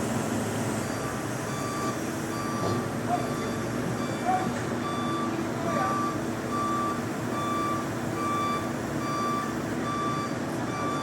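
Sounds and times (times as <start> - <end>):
engine rumble: 0.0 - 11.0
reversing alarm beeping: 0.8 - 11.0.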